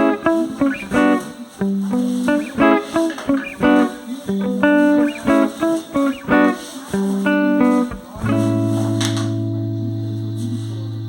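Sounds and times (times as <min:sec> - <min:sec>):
plucked guitar chords: 0:00.0 - 0:11.0.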